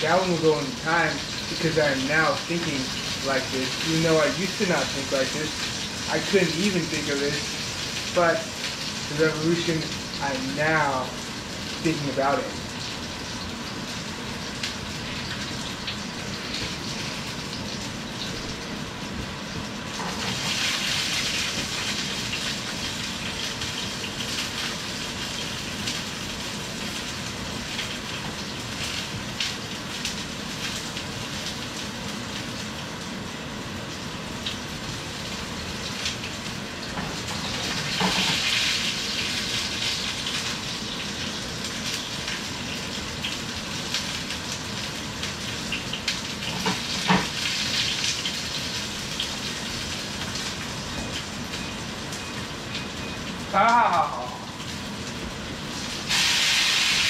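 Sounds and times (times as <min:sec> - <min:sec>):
chicken sizzling in a pan: 0:00.0 - 0:57.0.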